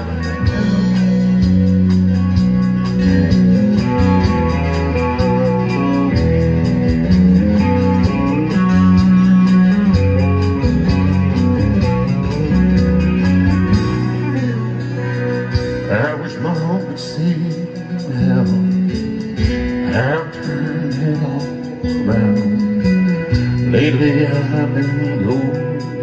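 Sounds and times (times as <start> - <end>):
country rock band playing: 0.0 - 26.0
lead guitar melody: 0.0 - 26.0.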